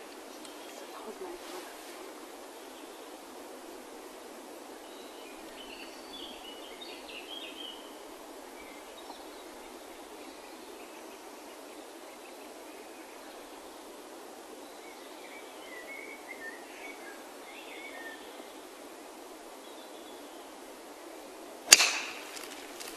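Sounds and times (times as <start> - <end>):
outdoor background hush: 0.0 - 22.9.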